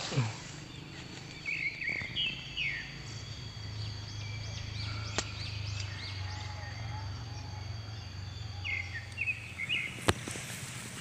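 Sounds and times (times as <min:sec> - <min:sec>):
birds chirping: 0:00.0 - 0:11.0
high insect drone: 0:00.0 - 0:11.0.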